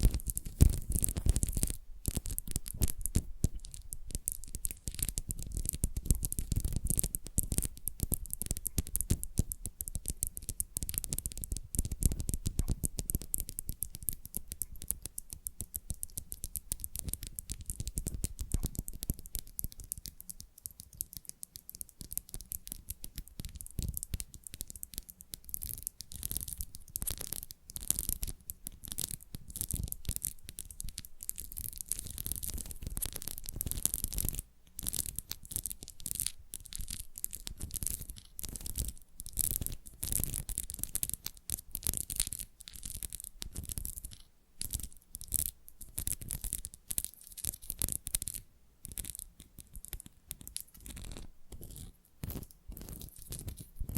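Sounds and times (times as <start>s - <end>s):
fingernail scratching and tapping: 0.0s - 53.9s.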